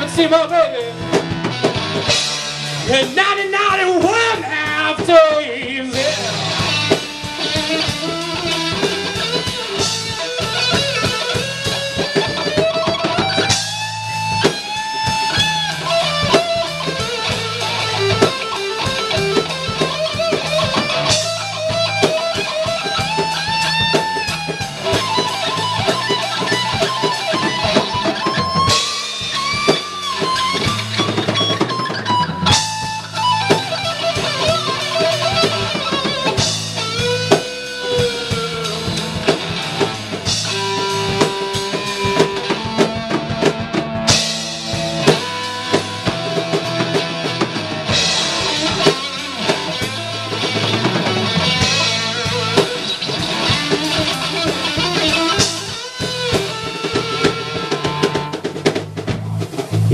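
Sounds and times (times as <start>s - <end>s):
bass guitar: 0.0s - 59.9s
drum kit: 0.0s - 59.9s
electric guitar lead lines: 0.0s - 59.9s.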